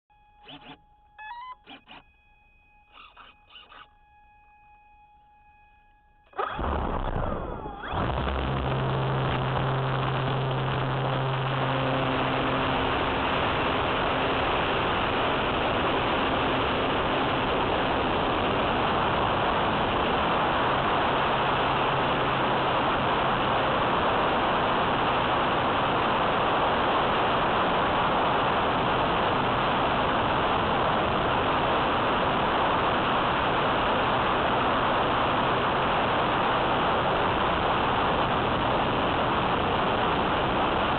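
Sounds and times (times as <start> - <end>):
low hum: 0.1 - 40.9
electric motor and propeller: 0.4 - 2.1, 2.8 - 4.0, 6.3 - 40.9.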